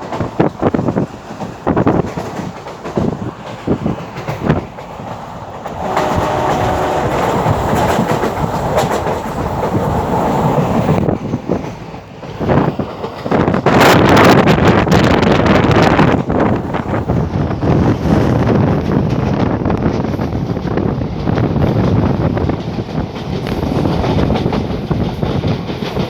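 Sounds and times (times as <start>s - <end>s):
train rumbling: 0.0s - 26.0s
train wheels knocking on rail joints: 0.0s - 26.0s
wind buffeting microphone: 0.0s - 26.0s.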